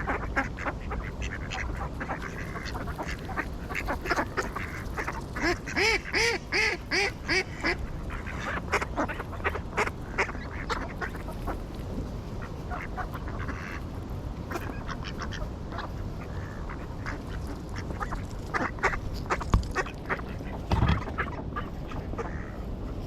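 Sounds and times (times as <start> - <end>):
ducks quacking: 0.0 - 23.0
low background rumble: 0.0 - 23.0.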